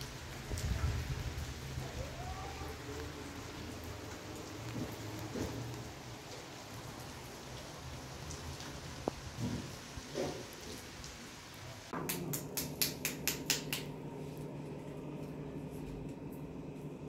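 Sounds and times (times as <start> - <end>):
rain falling: 0.0 - 13.9.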